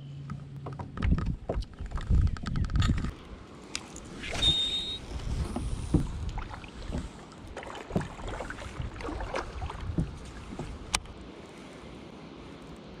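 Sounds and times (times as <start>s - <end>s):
faint wind: 0.0s - 13.0s.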